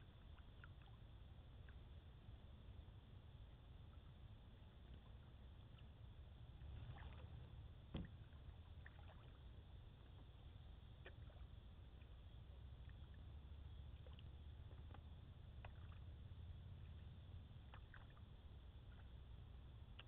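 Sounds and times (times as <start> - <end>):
faint water sounds: 0.0 - 20.0
low steady rumble: 0.0 - 20.0.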